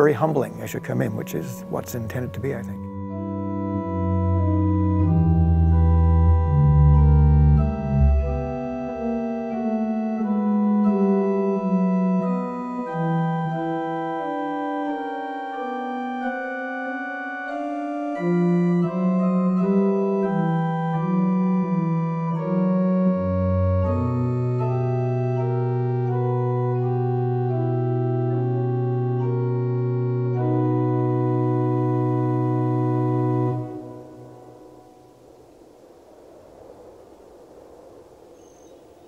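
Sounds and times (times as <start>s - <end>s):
pipe organ playing: 0.0s - 35.2s.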